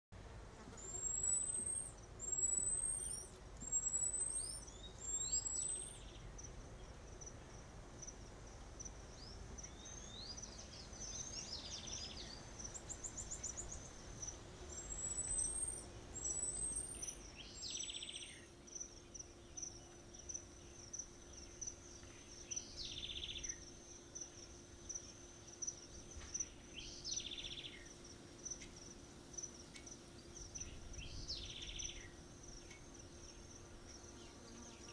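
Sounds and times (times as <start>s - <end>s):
insect trill: 0.8s - 34.9s.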